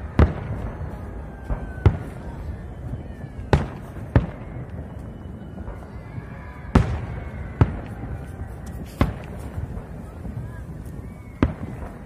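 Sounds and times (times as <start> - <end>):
fireworks bursting bangs: 0.0 - 12.0
low rumble of fireworks display: 0.0 - 12.0.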